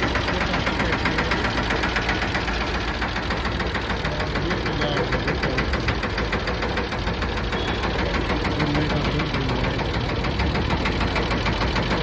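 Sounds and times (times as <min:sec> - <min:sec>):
small tractor engine knocking: 0:00.0 - 0:12.0.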